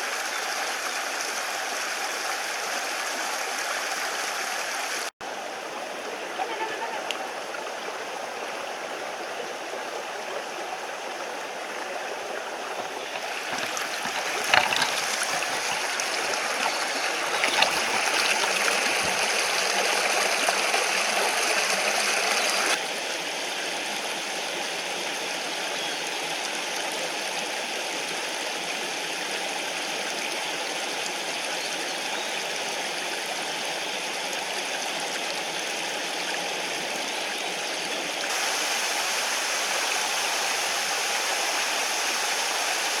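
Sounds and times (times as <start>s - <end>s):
stream running over rocks: 0.0s - 43.0s.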